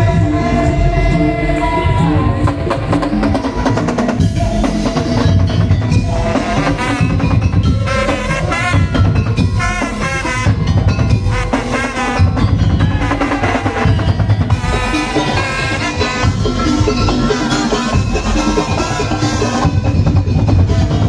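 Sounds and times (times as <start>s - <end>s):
heavy bass drum beats: 0.0s - 21.0s
held melody line: 0.0s - 21.0s
percussion ensemble drumming: 0.0s - 21.0s.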